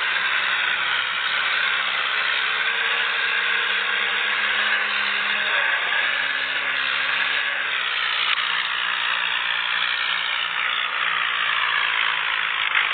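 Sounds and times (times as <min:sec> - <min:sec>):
thresher whirring: 0:00.0 - 0:12.9
tractor engine: 0:00.0 - 0:12.9.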